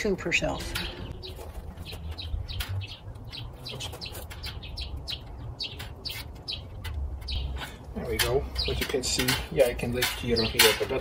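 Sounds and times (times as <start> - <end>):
small bird chirping: 0.4 - 11.0.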